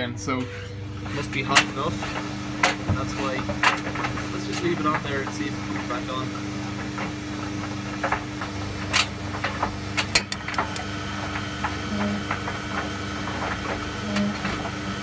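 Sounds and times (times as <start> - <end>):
tumble dryer motor hum: 0.0 - 15.0.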